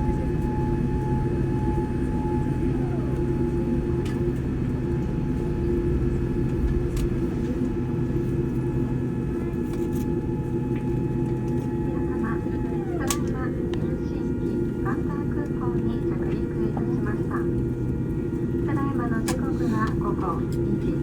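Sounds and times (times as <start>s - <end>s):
jet engines rumbling and whining: 0.0s - 21.0s.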